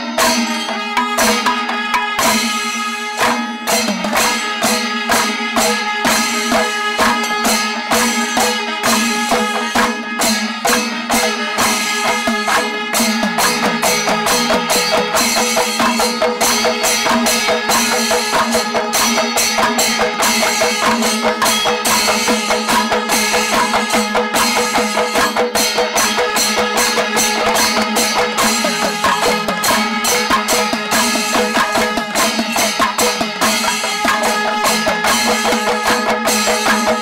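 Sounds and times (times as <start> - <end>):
drums beaten in fast rhythm: 0.0 - 37.0
hand cymbals clashing: 0.0 - 37.0.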